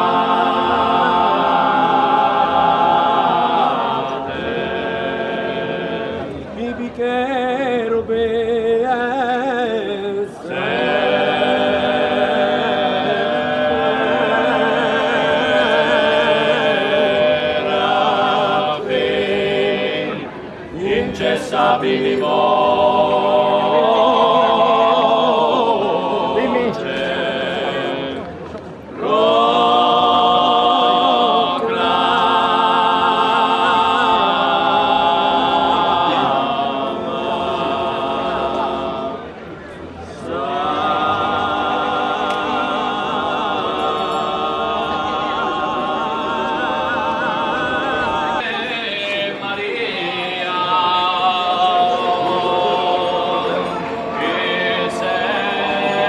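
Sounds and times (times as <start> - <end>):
folk choir singing a cappella: 0.0 - 56.0.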